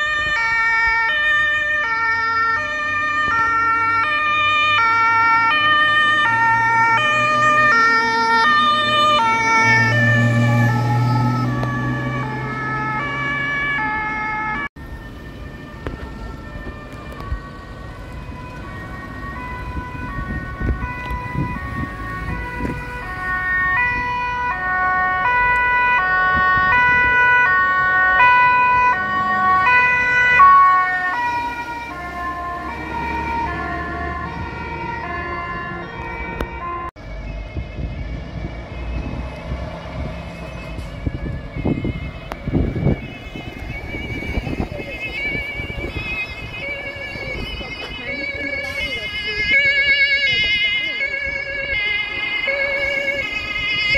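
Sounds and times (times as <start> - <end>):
truck engine: 0.0 - 53.9
two-tone siren: 0.0 - 53.9.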